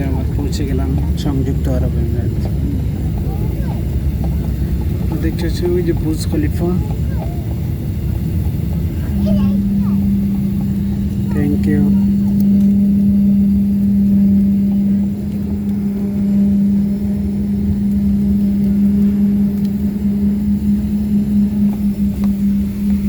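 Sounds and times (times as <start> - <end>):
airplane cabin hum and rumble: 0.0 - 23.0.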